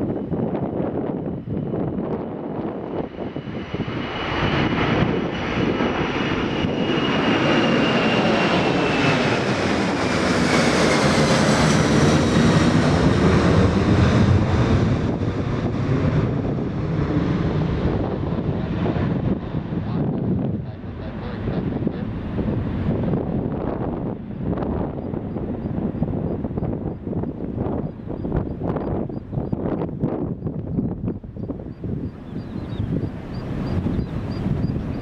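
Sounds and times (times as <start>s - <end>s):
jet airliner passing: 0.0s - 35.0s.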